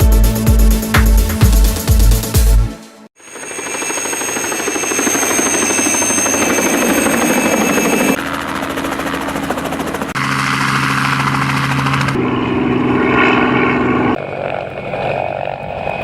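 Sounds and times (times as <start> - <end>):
helicopter engine and rotor: 3.2 - 16.0.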